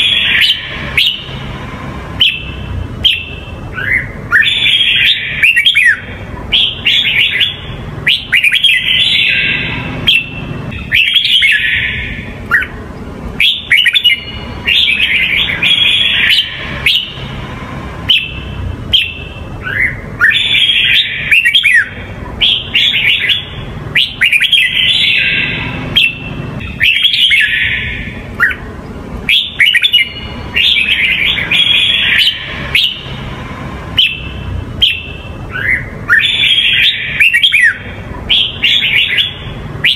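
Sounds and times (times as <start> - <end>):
bird singing chirps and whistles: 0.0 - 1.5, 2.2 - 12.8, 13.4 - 17.4, 18.0 - 28.6, 29.3 - 33.2, 33.9 - 39.9.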